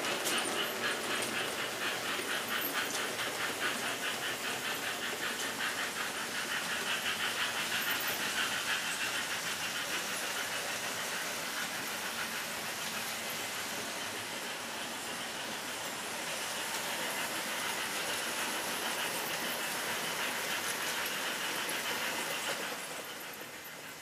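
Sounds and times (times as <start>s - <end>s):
model train running noise: 0.0s - 24.0s
model train wheels clicking: 0.0s - 24.0s.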